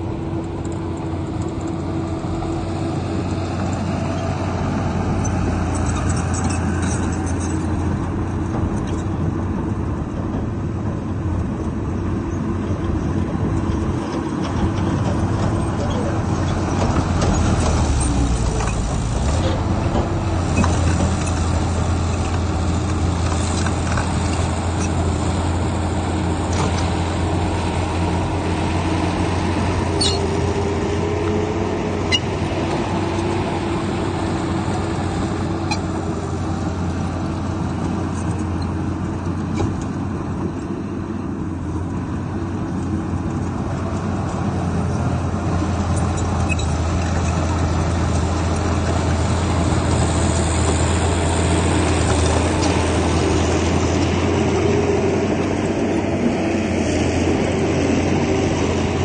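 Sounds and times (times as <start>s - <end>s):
diesel machinery engine hum: 0.0s - 59.0s.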